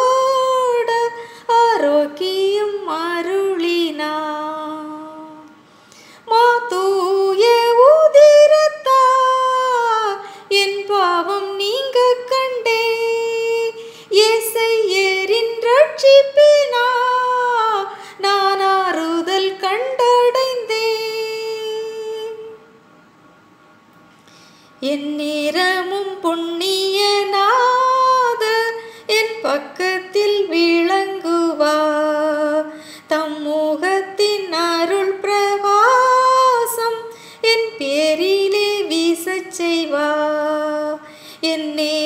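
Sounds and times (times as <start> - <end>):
woman singing a hymn: 0.0 - 5.6, 6.2 - 22.6, 24.8 - 42.0.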